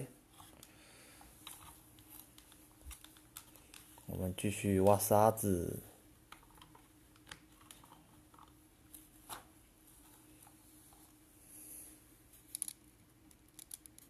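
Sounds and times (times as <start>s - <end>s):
soft hiss: 0.0s - 14.0s.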